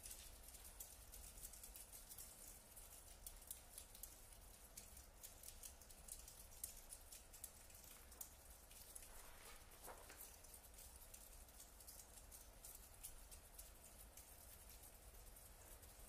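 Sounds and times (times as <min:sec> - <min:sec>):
quiet scattered clicks and ticks: 0:00.0 - 0:16.0
soft hiss: 0:00.0 - 0:16.0.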